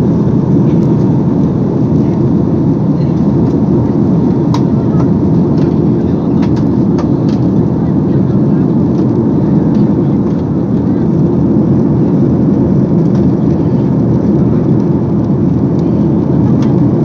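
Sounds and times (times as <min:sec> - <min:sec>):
jet engines roaring in cabin: 0:00.0 - 0:17.0.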